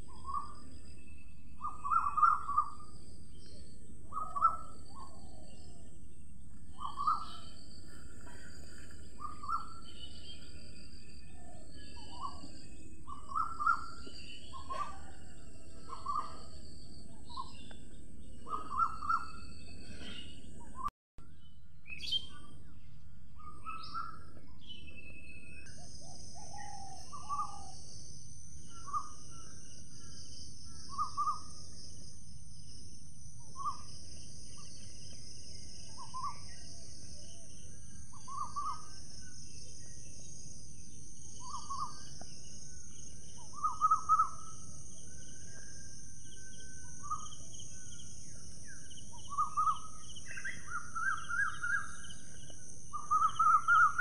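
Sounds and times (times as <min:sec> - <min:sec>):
bird calling: 0:00.0 - 0:20.9, 0:23.4 - 0:28.0, 0:28.6 - 0:32.0, 0:33.4 - 0:54.0.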